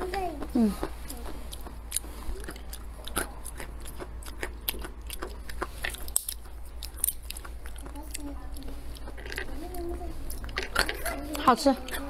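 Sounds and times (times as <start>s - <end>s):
chewing nuts crunching: 0.0s - 12.0s.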